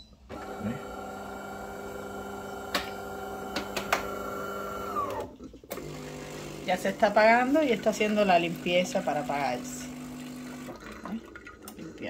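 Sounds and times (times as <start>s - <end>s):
coffee machine pump humming: 0.3s - 11.8s.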